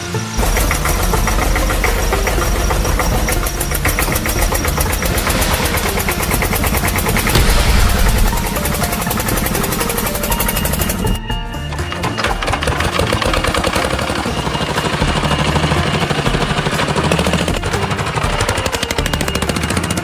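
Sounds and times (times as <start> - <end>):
engine running with rapid pulse: 0.0 - 20.0.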